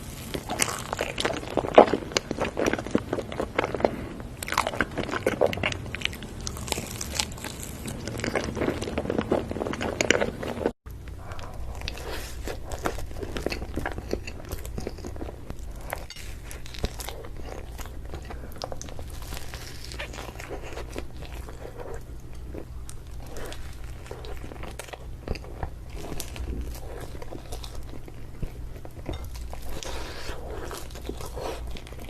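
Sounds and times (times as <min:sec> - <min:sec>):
chewing crunchy cake: 0:00.0 - 0:32.0
steady low hum: 0:00.0 - 0:32.0.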